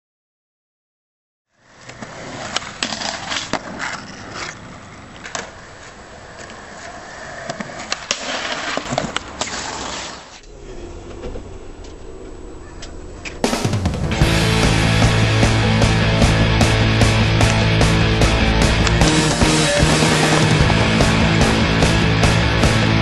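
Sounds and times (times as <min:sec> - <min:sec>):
skateboard wheels rolling on pavement: 0:01.5 - 0:10.4, 0:11.1 - 0:23.0.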